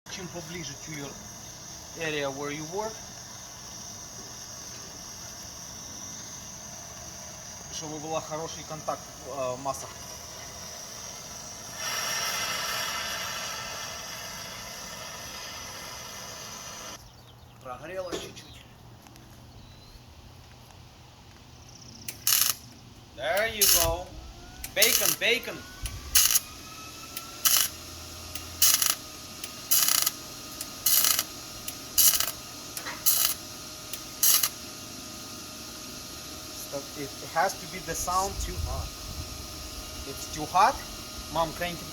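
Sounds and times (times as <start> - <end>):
arc welding crackle: 0.1 - 17.0, 22.0 - 41.9.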